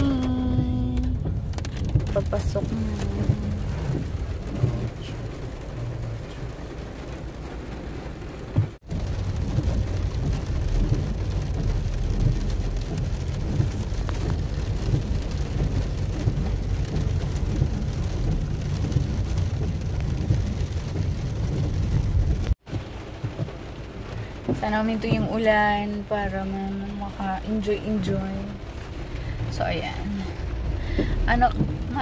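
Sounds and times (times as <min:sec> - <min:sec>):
car rumble: 0:00.0 - 0:32.0
rain on a car roof: 0:00.0 - 0:32.0.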